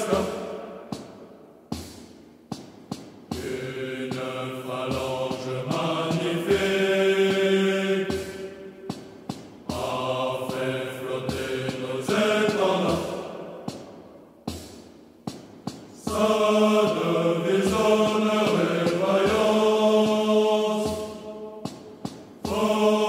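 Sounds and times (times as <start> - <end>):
choir singing: 0.0 - 1.4, 3.3 - 14.6, 16.0 - 23.0.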